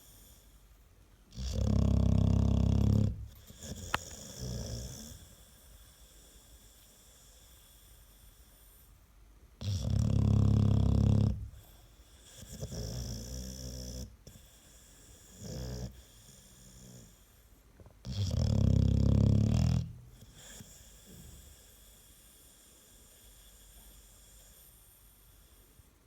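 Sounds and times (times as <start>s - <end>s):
dog snoring: 1.3s - 8.2s, 9.6s - 25.9s.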